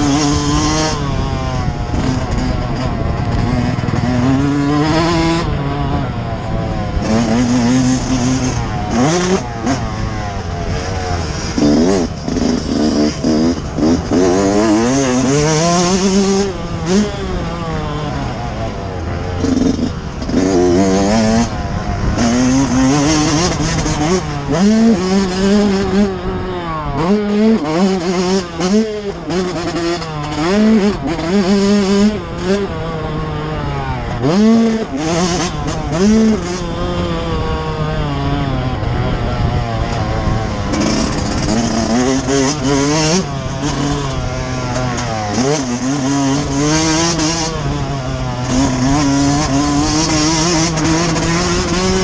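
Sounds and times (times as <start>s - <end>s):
two-stroke motorcycle engine revving: 0.0s - 52.0s
wind noise: 0.0s - 52.0s.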